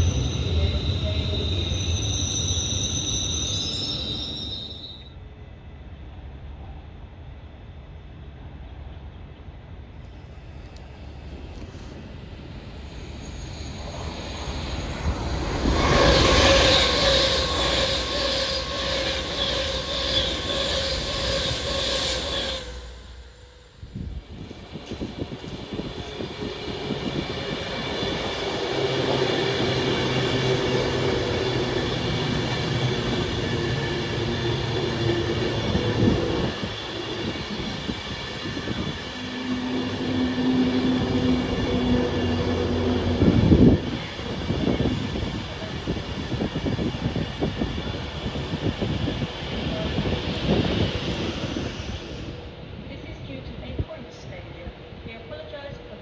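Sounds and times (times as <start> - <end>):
train passing rumble: 0.0 - 56.0.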